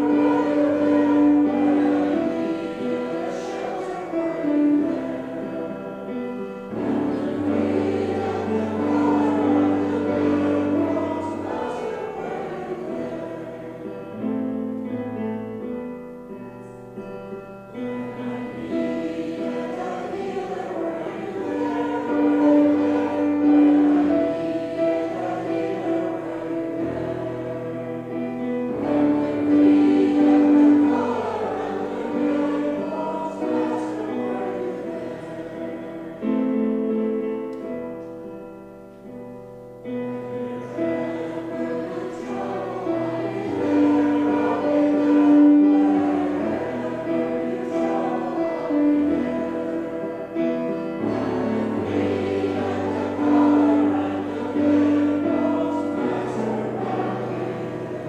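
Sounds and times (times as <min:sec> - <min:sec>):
choir singing a hymn: 0:00.0 - 0:58.0
instrumental accompaniment: 0:00.0 - 0:58.0.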